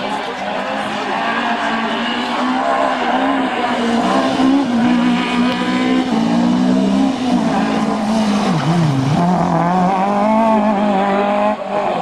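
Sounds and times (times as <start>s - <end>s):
car engine pulling hard: 0.0s - 12.0s.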